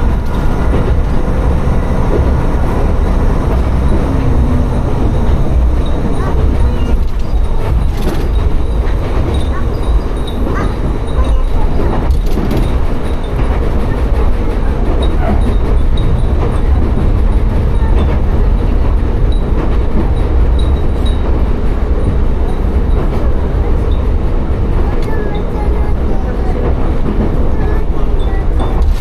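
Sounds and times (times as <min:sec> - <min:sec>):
railcar rumbling: 0:00.0 - 0:29.0.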